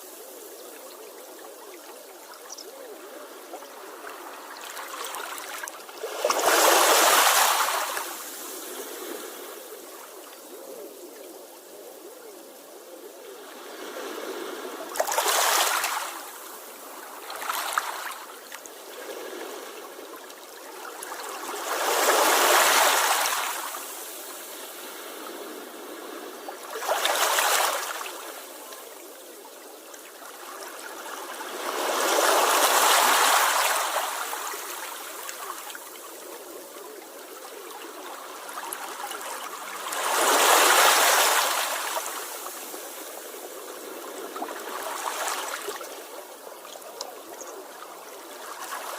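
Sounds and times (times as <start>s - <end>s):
sea waves washing ashore: 0.0s - 11.7s, 13.3s - 48.9s.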